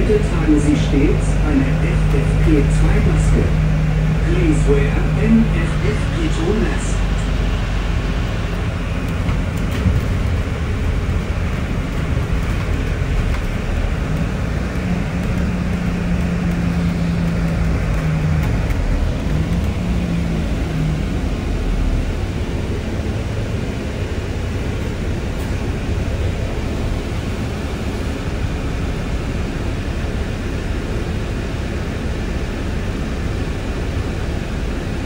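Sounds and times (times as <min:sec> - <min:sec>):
air conditioning: 0:00.0 - 0:35.0
bus engine and road noise: 0:00.0 - 0:35.0
low hum: 0:00.0 - 0:35.0.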